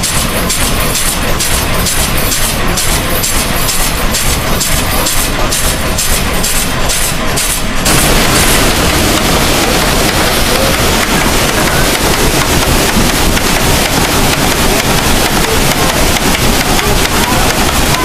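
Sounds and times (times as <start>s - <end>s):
water rushing through water wheel: 0.0s - 18.0s.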